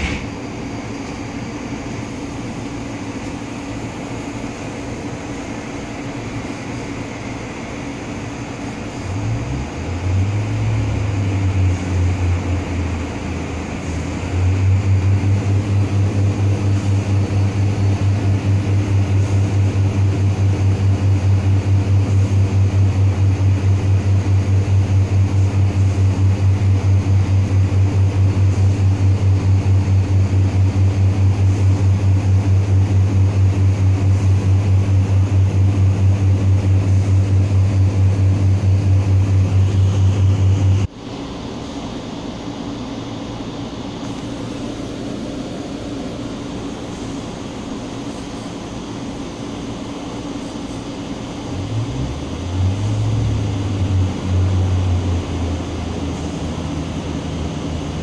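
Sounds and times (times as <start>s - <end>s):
train diesel engine: 0.0s - 58.0s.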